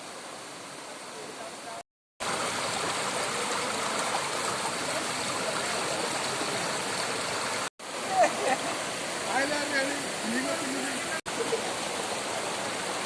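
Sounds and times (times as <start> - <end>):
flowing falling water: 0.0 - 13.0.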